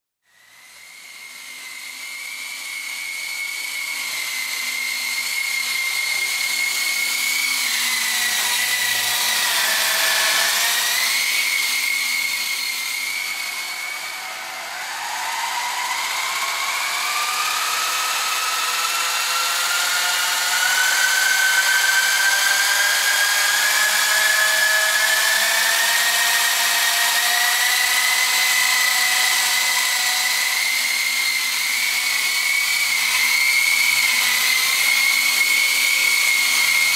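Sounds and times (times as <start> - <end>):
model helicopter rotors whining: 0.3 - 36.9.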